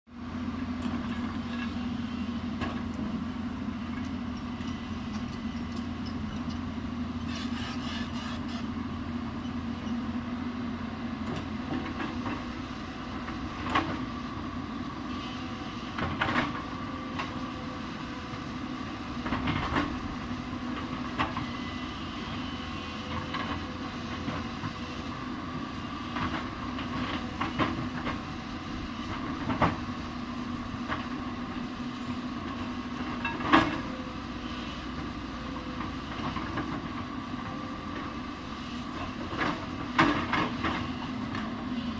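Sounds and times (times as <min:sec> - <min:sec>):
excavator diesel engine running: 0:00.1 - 0:41.9.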